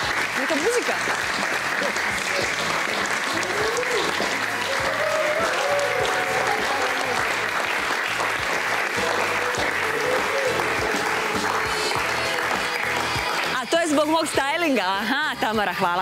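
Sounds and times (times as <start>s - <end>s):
audience applauding: 0.0s - 14.8s
upbeat show music: 0.0s - 16.0s.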